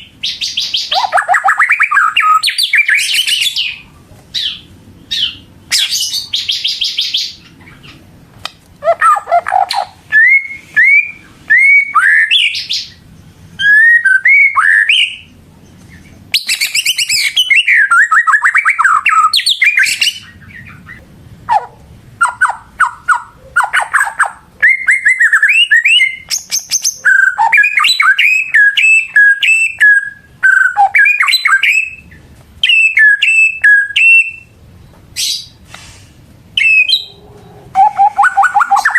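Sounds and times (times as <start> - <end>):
bird singing whistles and trills: 0.0 - 3.8, 4.4 - 7.9, 9.0 - 13.0, 13.6 - 15.4, 16.3 - 21.0, 22.2 - 34.6, 36.6 - 37.2, 37.8 - 38.9.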